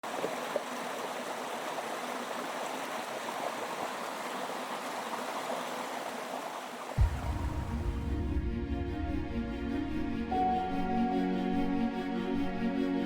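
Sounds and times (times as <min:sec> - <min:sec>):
waterfall and stream rushing: 0:00.0 - 0:12.2.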